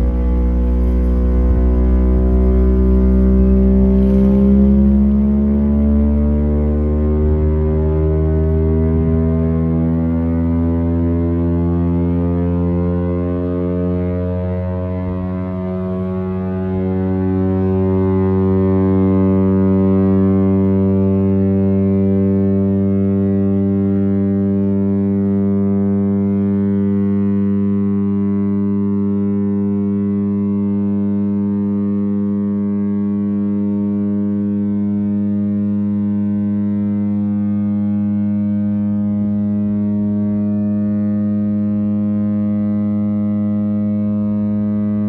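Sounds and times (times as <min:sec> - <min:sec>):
siren steady deep tone: 0:00.0 - 0:45.0.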